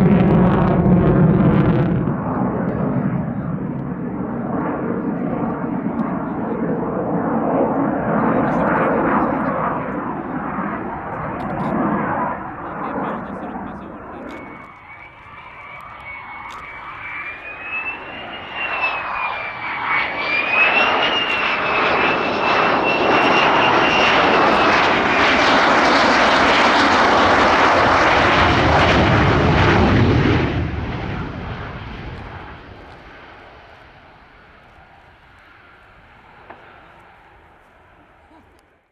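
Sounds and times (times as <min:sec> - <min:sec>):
jet fighter flying by: 0:00.0 - 0:38.9.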